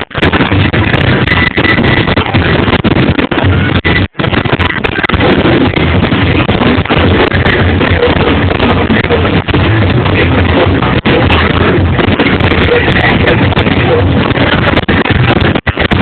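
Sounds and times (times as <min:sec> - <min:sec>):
loud distorted music: 0:00.0 - 0:16.0.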